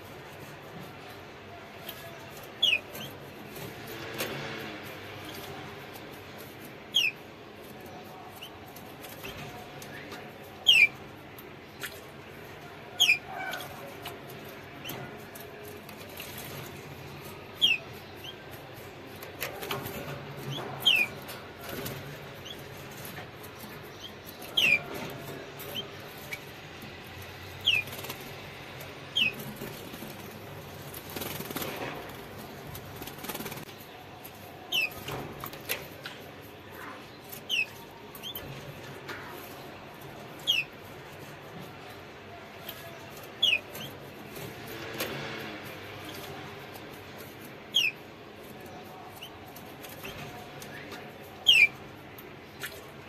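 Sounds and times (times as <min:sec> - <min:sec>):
canaries chirping: 0:00.0 - 0:53.0
wings fluttering: 0:01.8 - 0:53.0.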